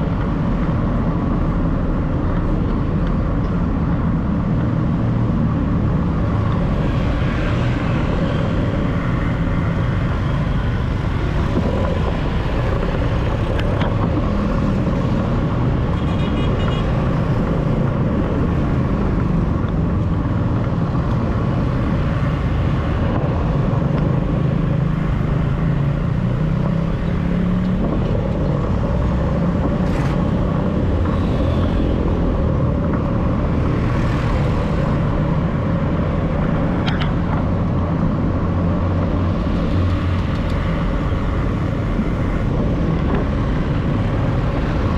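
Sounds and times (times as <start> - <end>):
traffic rumble: 0.0 - 44.9.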